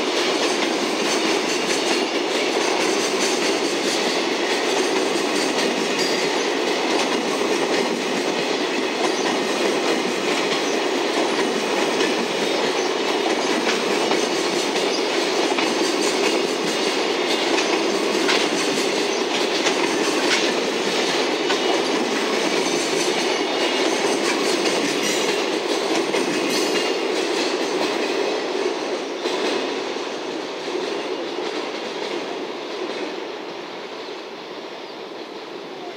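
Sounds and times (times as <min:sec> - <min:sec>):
rail joint clacks: 0:00.0 - 0:33.2
train wheels rolling on rail: 0:00.0 - 0:35.9.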